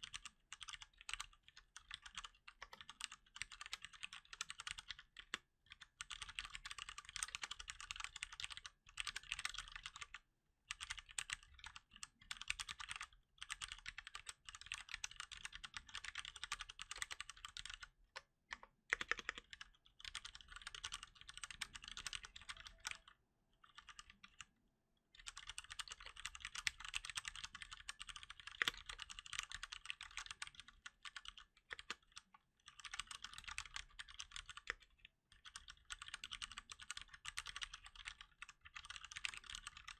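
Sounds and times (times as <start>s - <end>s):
fast mechanical keyboard typing: 0.0s - 24.5s, 25.2s - 39.9s.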